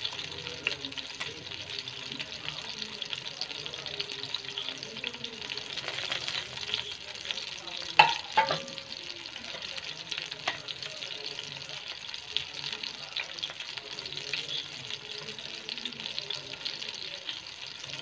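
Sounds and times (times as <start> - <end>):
chicken sizzling in oil: 0.0 - 18.0.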